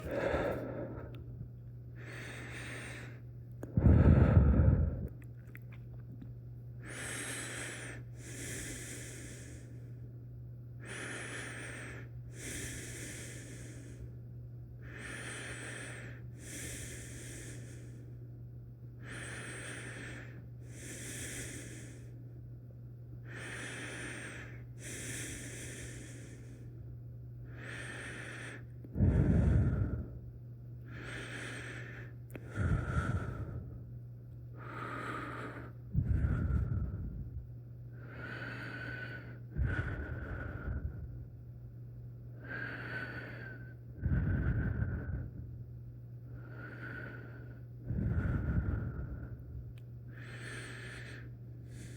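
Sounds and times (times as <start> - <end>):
person breathing deeply: 0.0 - 1.3, 2.0 - 5.2, 6.8 - 10.0, 10.8 - 14.2, 14.8 - 18.2, 19.0 - 22.4, 23.2 - 26.8, 27.4 - 33.9, 34.5 - 41.3, 42.4 - 45.6, 46.2 - 51.9.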